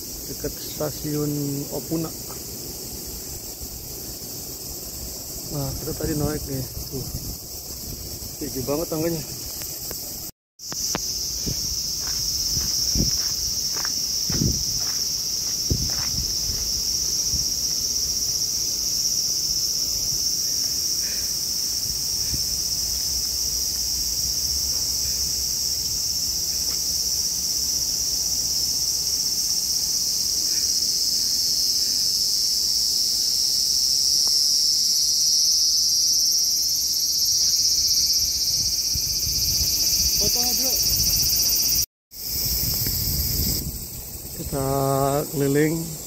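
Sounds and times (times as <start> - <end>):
cicadas shrilling: 0.0 - 46.0.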